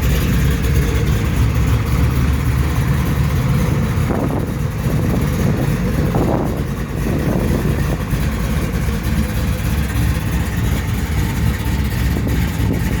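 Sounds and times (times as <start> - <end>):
pickup engine idling: 0.0 - 13.0.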